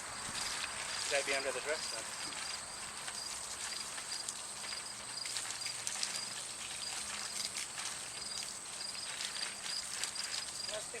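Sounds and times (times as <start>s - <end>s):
garden hose spraying water: 0.0s - 11.0s
water spattering: 0.0s - 11.0s.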